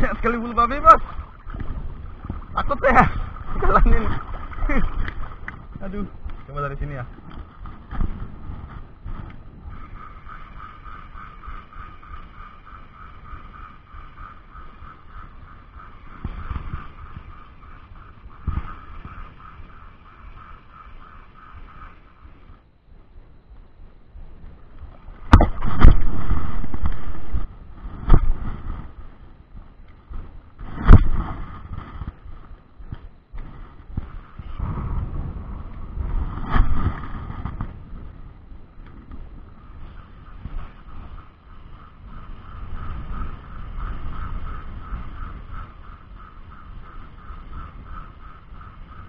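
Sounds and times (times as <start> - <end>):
fishing reel ticking: 0.0 - 22.7, 28.3 - 34.7, 36.8 - 49.0
wind rumble on microphone: 0.0 - 49.0.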